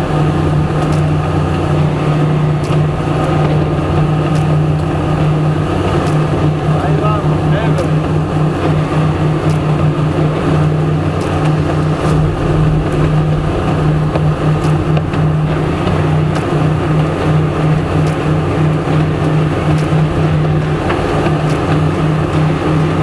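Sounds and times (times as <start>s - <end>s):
outboard motor droning: 0.0s - 23.0s.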